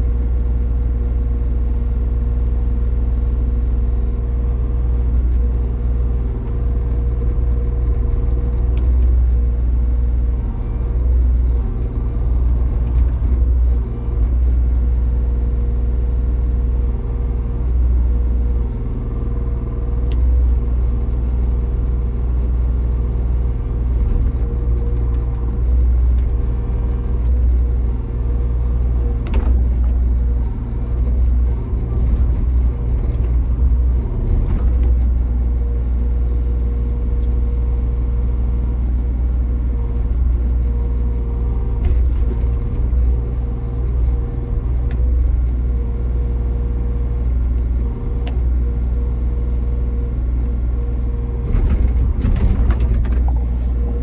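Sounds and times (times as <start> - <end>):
backhoe loader engine rumbling: 0.0 - 54.0.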